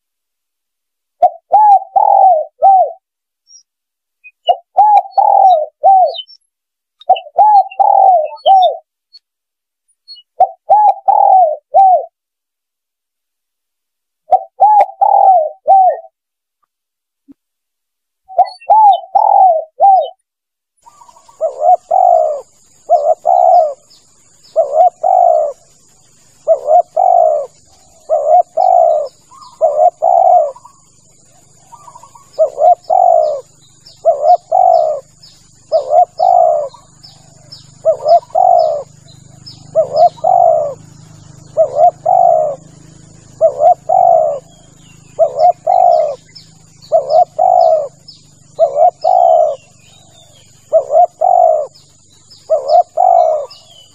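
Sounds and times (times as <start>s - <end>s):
dove cooing: 1.2s - 3.0s, 4.3s - 6.4s, 7.0s - 8.9s, 10.2s - 12.2s, 14.3s - 16.1s, 18.3s - 20.2s, 20.8s - 53.9s.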